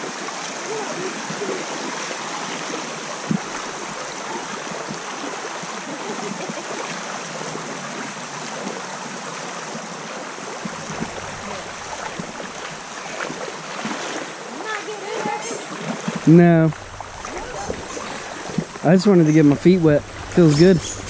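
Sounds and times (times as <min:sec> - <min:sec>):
creek water running over rocks: 0:00.0 - 0:21.0.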